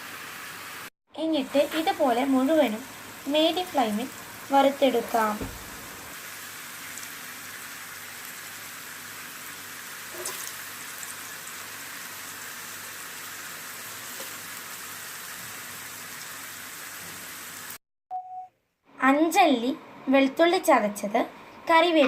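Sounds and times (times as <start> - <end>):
food sizzling in hot oil: 0.0 - 17.8.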